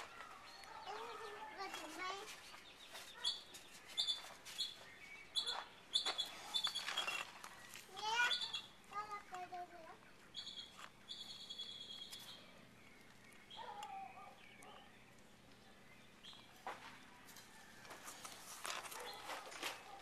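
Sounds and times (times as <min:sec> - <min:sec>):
bird calls: 0:00.0 - 0:17.7.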